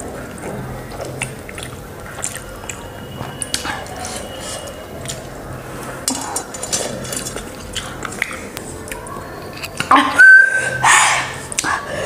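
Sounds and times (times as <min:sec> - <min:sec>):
person chewing noodles: 0:00.0 - 0:09.9.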